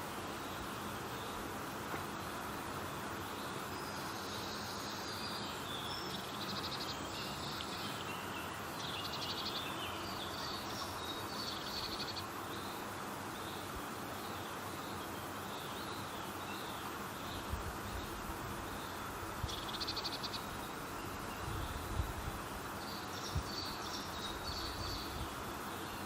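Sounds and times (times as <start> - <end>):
steady background hiss: 0.0 - 26.0
birds singing: 3.2 - 26.0.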